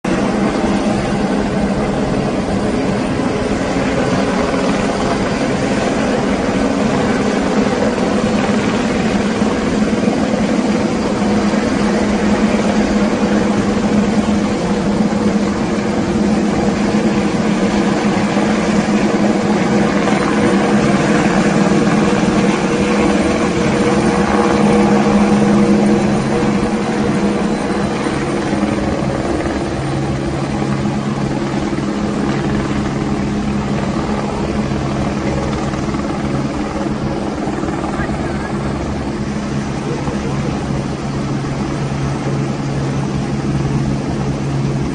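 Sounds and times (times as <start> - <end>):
engine drone: 0.1 - 44.9.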